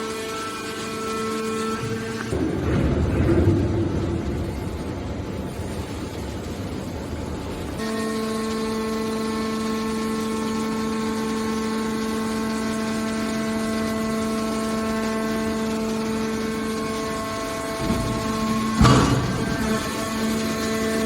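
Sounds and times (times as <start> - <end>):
hydraulic power unit whining: 0.0 - 21.0.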